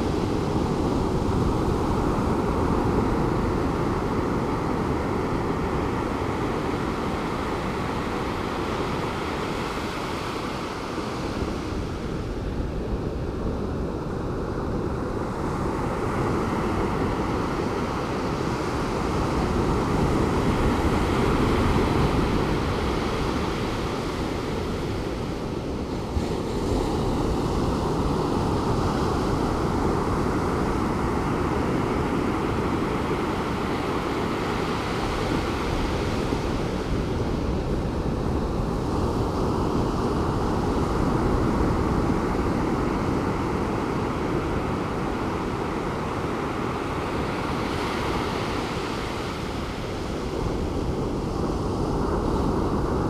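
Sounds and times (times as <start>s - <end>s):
surf breaking on a beach: 0.0s - 53.0s
wind rumble on microphone: 0.0s - 53.0s.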